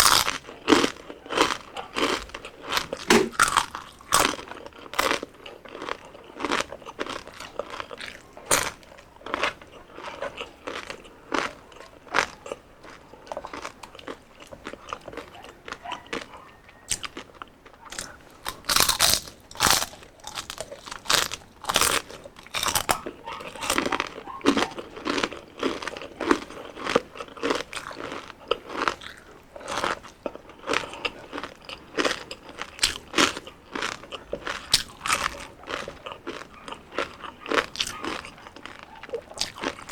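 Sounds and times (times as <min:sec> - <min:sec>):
crunching and chewing crispy skin: 0:00.0 - 0:39.9.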